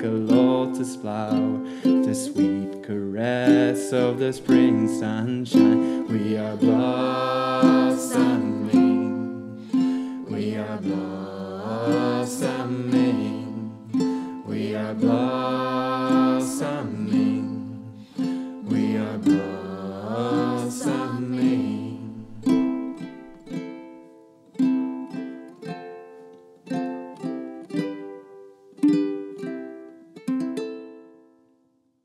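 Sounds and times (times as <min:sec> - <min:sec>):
ukulele plucked notes: 0:00.0 - 0:31.6.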